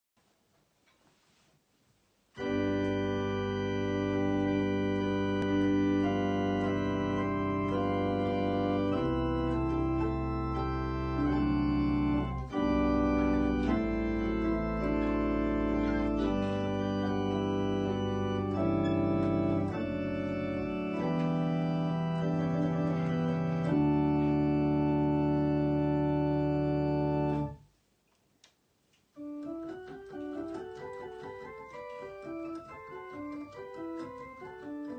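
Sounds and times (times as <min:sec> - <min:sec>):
electronic organ playing chords: 0:02.4 - 0:27.6, 0:29.2 - 0:34.9.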